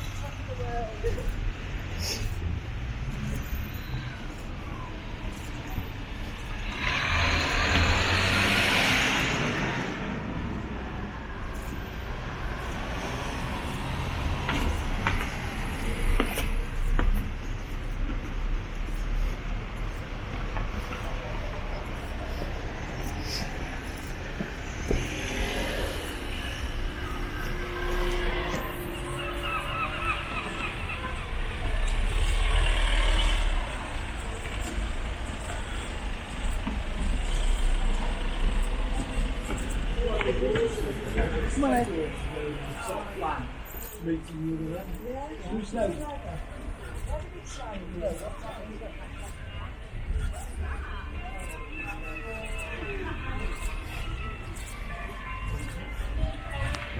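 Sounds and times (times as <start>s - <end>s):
road vehicles rumbling past: 0.0s - 56.9s.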